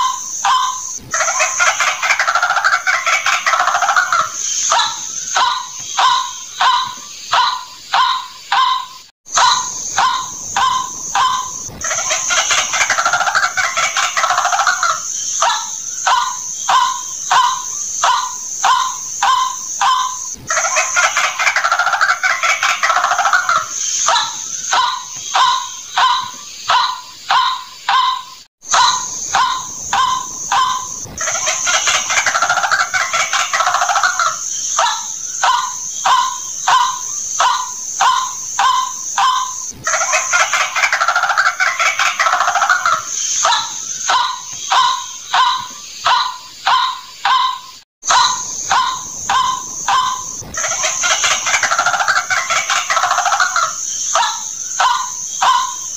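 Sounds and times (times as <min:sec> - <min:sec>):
bird harsh chattering: 0:00.0 - 0:55.9
high-pitched hiss: 0:00.0 - 0:55.9.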